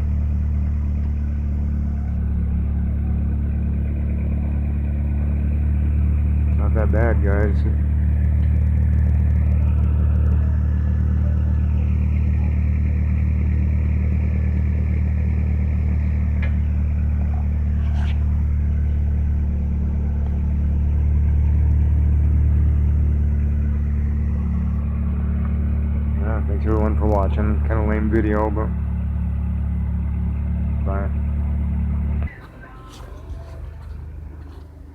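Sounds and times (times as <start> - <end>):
small engine idling: 0.0 - 34.9.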